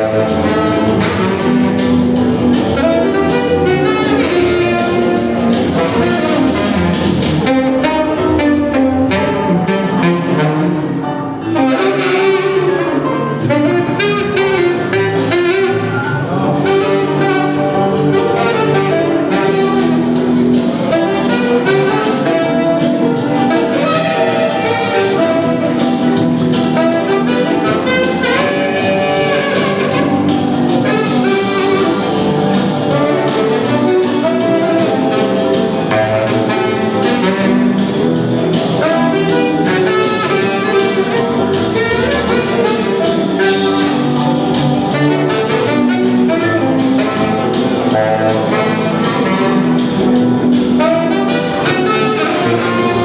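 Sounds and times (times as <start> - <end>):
rhythmic accompaniment: 0.0 - 53.0
saxophone playing jazz: 0.0 - 53.0.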